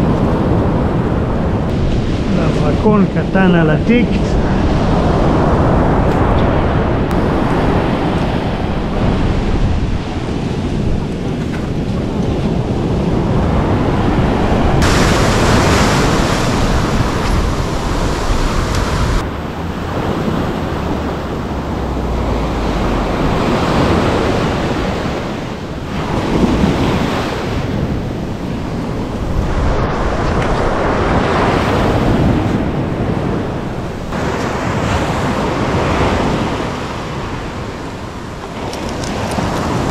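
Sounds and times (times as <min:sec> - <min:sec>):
sea surf breaking on beach: 0:00.0 - 0:39.9
wind buffeting microphone: 0:00.0 - 0:39.9.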